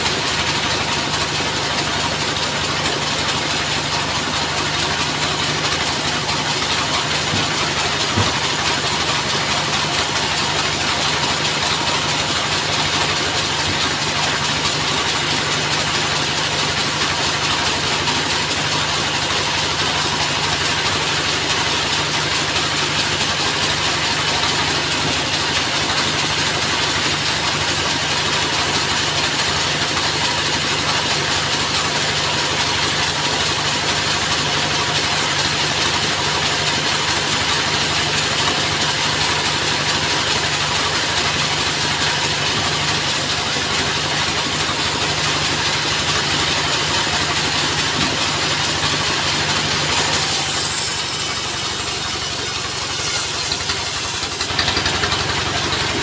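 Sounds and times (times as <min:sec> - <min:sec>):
sawmill engine running: 0:00.0 - 0:56.0.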